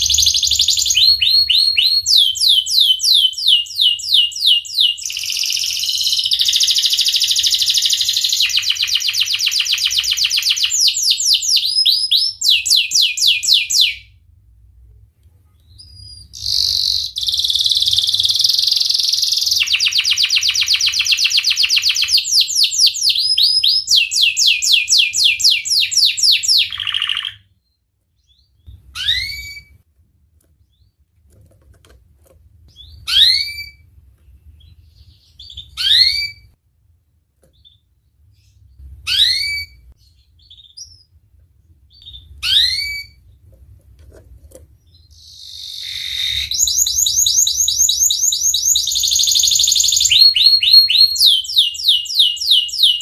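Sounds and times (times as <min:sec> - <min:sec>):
canary singing trills: 0:00.0 - 0:14.1, 0:15.6 - 0:29.8, 0:34.5 - 0:36.6, 0:37.5 - 0:41.2, 0:41.9 - 0:43.4, 0:44.7 - 0:53.0.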